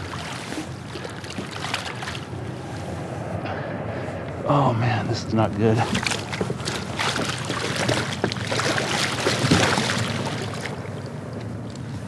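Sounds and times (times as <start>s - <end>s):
water splashing and sloshing: 0.0s - 3.7s, 5.5s - 12.0s.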